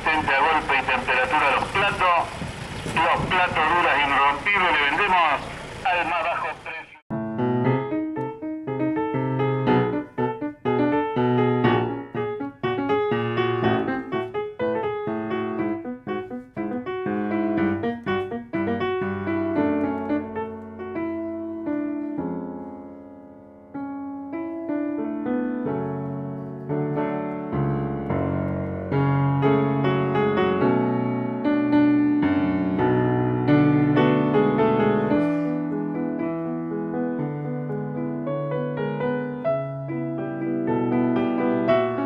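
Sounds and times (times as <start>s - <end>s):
piano music: 7.1s - 42.0s.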